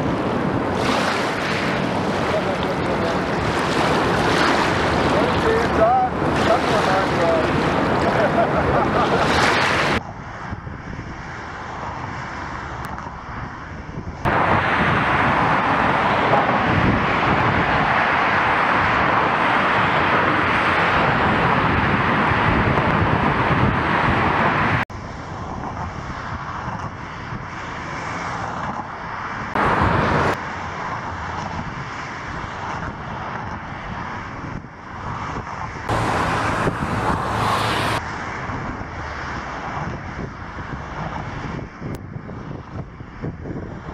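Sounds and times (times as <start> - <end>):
engine drone: 0.0 - 34.3, 35.7 - 42.0
wind: 0.0 - 43.9.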